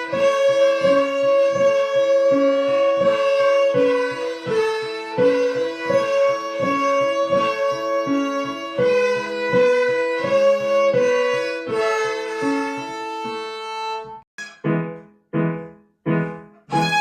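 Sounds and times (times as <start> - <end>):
violins playing a melody: 0.0 - 14.2, 16.7 - 17.0.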